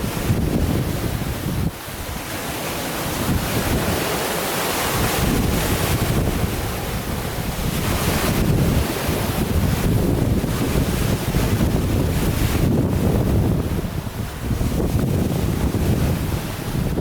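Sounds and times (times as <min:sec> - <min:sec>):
waves breaking on a lake: 0:00.0 - 0:17.0
wind buffeting microphone: 0:00.0 - 0:17.0.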